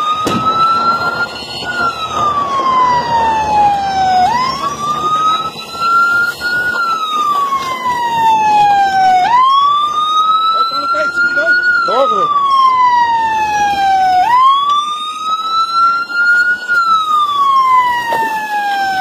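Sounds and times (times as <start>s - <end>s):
police siren wailing: 0.0s - 19.0s.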